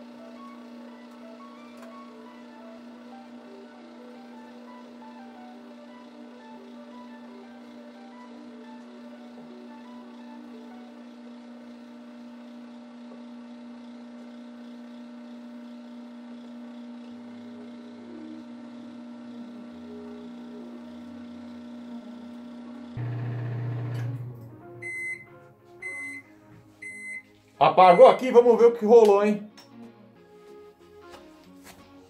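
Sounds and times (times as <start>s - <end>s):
microwave oven humming: 0.0s - 29.1s.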